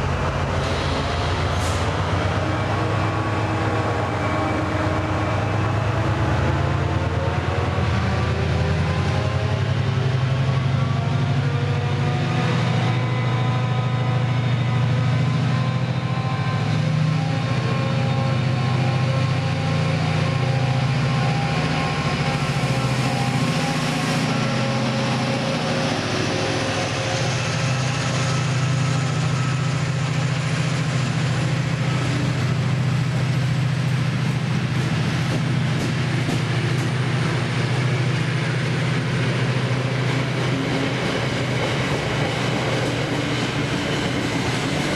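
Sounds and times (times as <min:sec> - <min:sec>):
train humming: 0:00.0 - 0:44.9.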